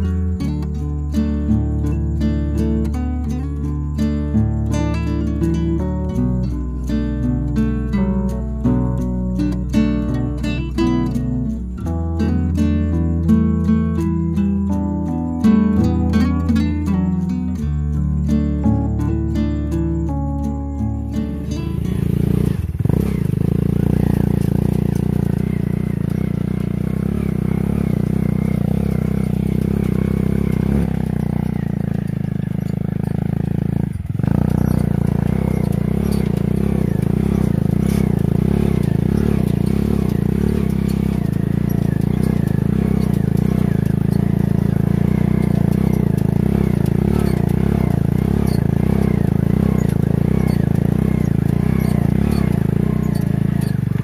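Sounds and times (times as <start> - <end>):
small motorcycle engine running: 0.0 - 14.8, 15.4 - 54.0.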